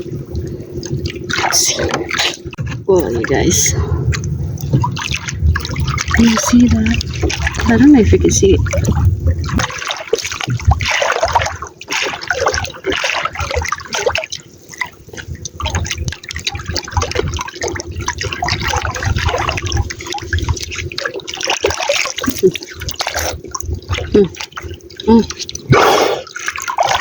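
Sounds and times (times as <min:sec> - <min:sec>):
water splashing and dripping: 0:00.0 - 0:27.0.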